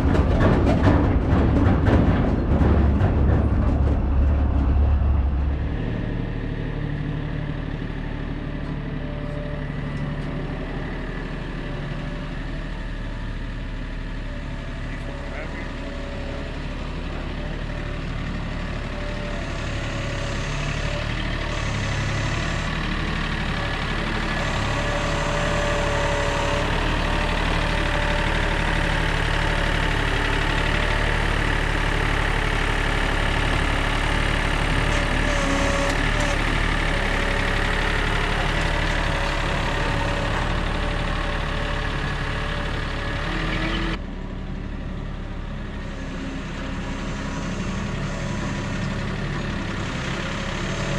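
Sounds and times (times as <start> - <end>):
vehicle engine running: 0.0 - 50.9.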